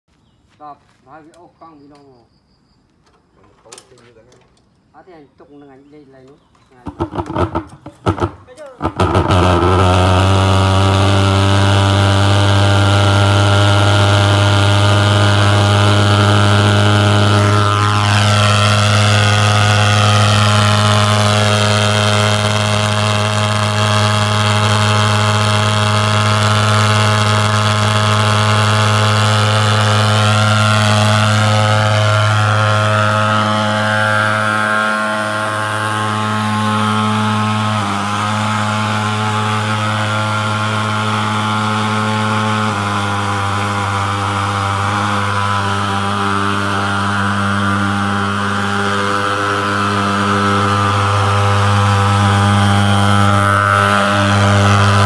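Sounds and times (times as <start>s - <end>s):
pulse-jet engine buzzing: 6.9s - 55.0s.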